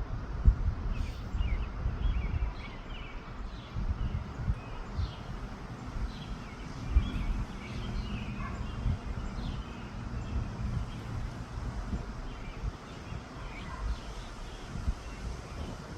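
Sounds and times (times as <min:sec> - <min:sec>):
wind buffeting microphone: 0:00.0 - 0:15.9
small birds chirping: 0:01.0 - 0:15.9.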